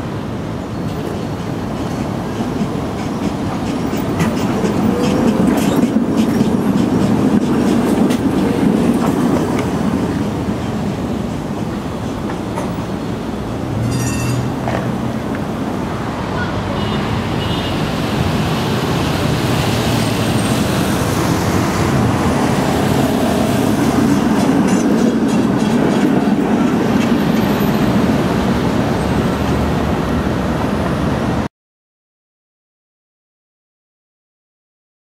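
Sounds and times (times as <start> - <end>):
streetcar wheels and motors rumbling: 0.0 - 31.5.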